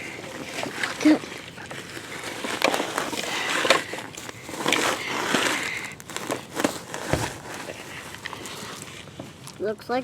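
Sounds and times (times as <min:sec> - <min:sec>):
toy loader bucket scraping dirt: 0:00.0 - 0:09.2.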